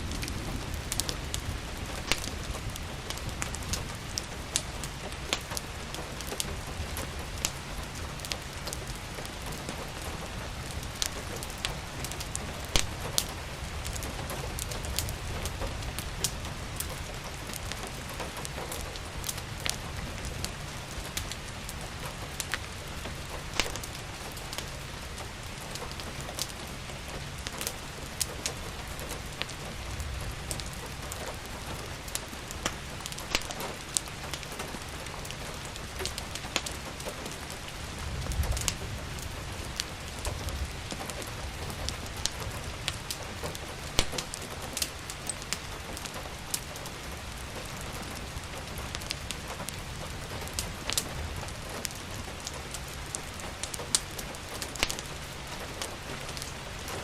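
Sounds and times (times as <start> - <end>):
steady rain falling: 0.0 - 57.0
wood fire crackling: 0.0 - 57.0.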